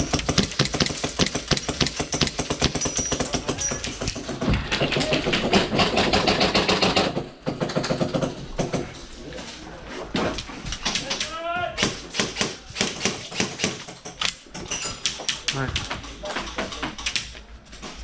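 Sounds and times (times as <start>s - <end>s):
airsoft guns firing rapidly: 0.0s - 8.9s, 10.7s - 17.3s.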